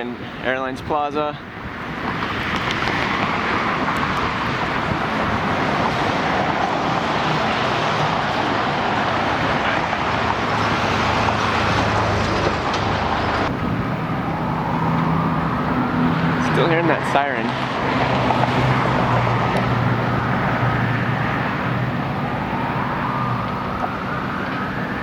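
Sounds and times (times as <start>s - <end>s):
traffic noise: 0.0s - 25.0s
emergency siren wailing: 2.9s - 25.0s.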